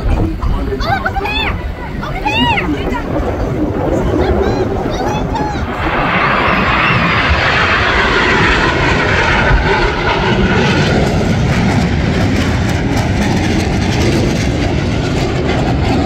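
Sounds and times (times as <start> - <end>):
jet engines flying past: 0.0 - 16.0
low jet rumble: 0.0 - 16.0.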